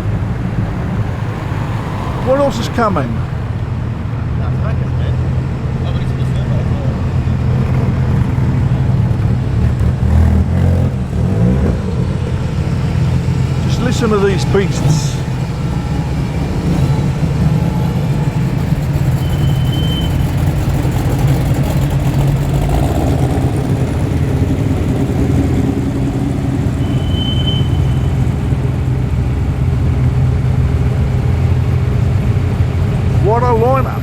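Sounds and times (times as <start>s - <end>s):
muscle car engines rumbling: 0.0s - 34.0s.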